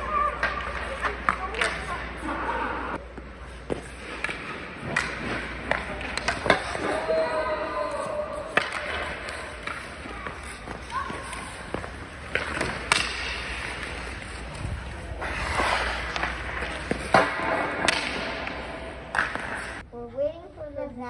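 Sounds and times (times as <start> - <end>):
hockey stick striking ice: 0.0 - 2.3, 3.1 - 19.8
skate blades scraping on ice: 0.0 - 19.8.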